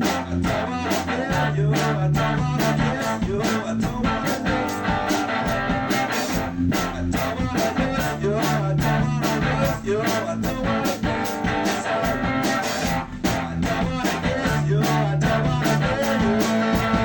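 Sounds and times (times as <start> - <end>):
instrumental rock band: 0.0 - 17.0.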